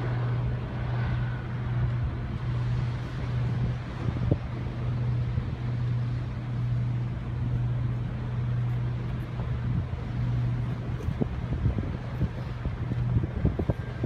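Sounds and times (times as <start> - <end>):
low engine drone: 0.0 - 14.0
rushing wind and water noise: 0.0 - 14.0.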